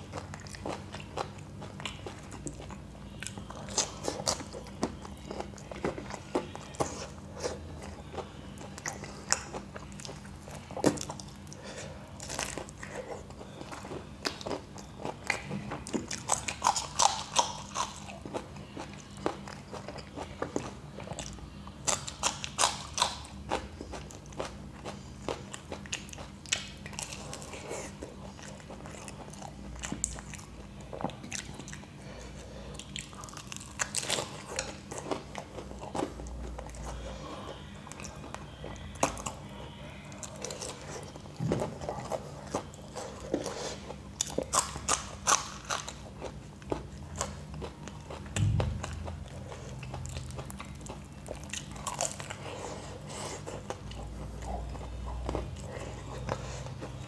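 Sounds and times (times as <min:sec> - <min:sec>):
quiet chewing: 0:00.0 - 0:57.0.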